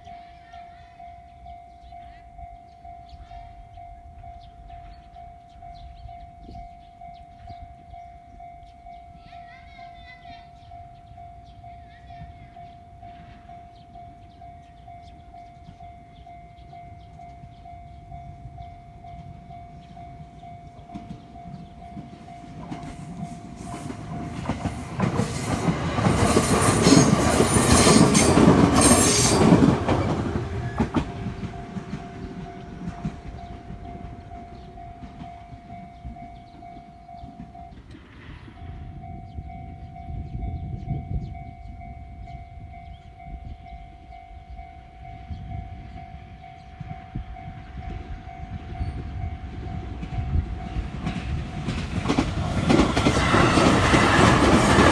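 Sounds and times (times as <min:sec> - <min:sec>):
train passing with wheel clatter: 0:00.0 - 0:54.9.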